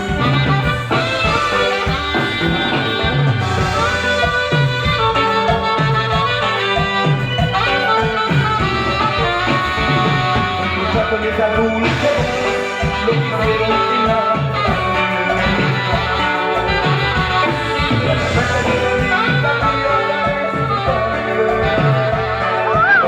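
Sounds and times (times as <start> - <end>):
live band playing latin dance music: 0.0 - 23.0.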